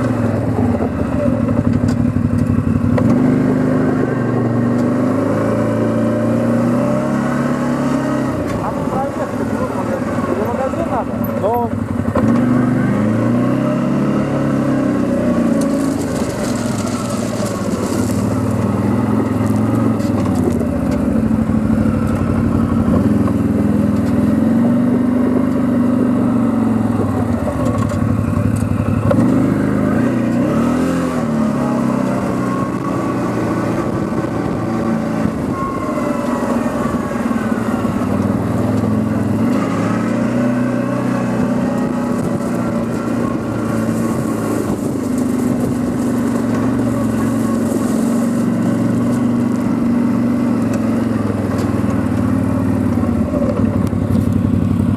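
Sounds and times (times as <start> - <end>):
quad bike engine revving: 0.0 - 54.9.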